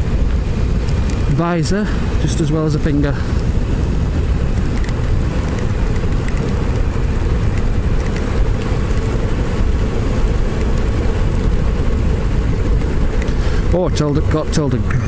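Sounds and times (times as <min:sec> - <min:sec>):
motorcycle engine rumble: 0:00.0 - 0:15.0
road noise: 0:00.0 - 0:15.0
wind rush: 0:00.0 - 0:15.0.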